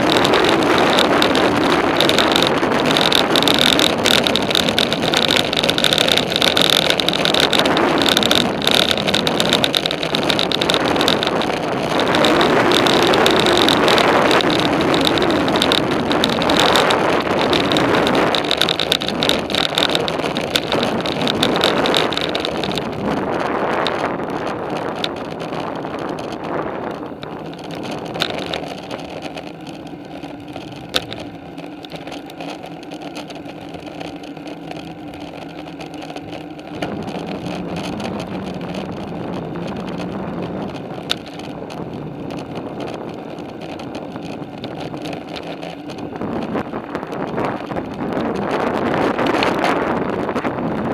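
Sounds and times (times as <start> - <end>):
bicycle tyre and drivetrain rumble: 0.0 - 50.9
wind on microphone: 0.0 - 50.9.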